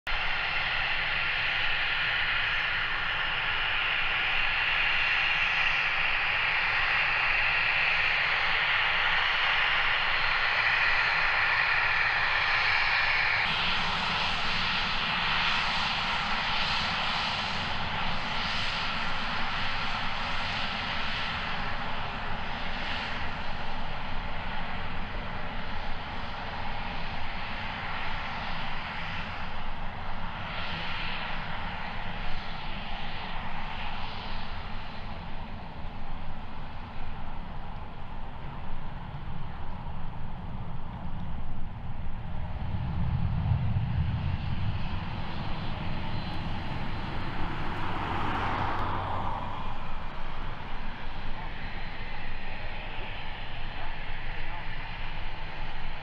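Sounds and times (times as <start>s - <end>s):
deeper jet rumble with hiss: 0.1s - 56.0s
jet engines whining: 0.1s - 56.0s.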